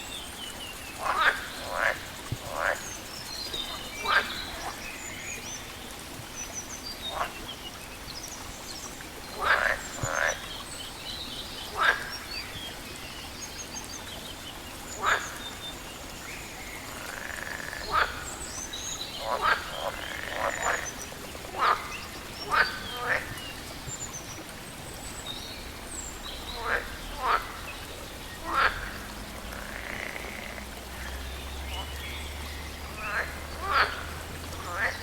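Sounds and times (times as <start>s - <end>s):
frogs croaking: 0.0s - 8.4s, 9.1s - 35.0s
steady background hiss: 0.0s - 35.0s.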